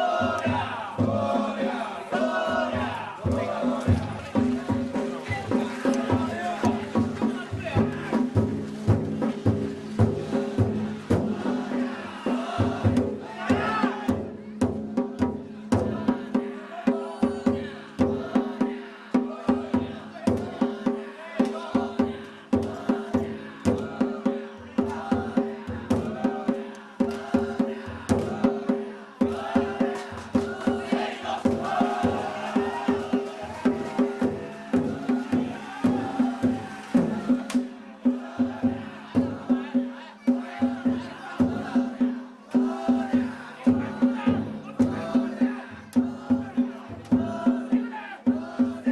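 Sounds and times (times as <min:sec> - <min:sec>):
crowd shouting: 0:00.0 - 0:08.4, 0:10.2 - 0:48.9
drums and gongs beaten: 0:00.0 - 0:48.9.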